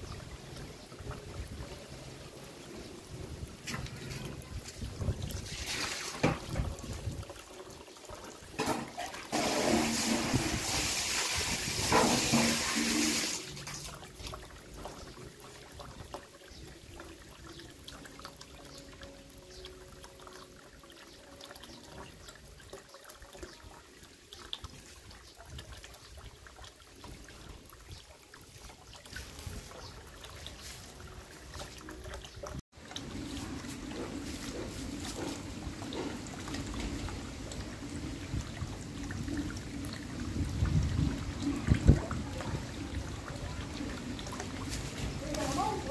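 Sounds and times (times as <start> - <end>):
water trickling into basin: 0.0 - 45.9.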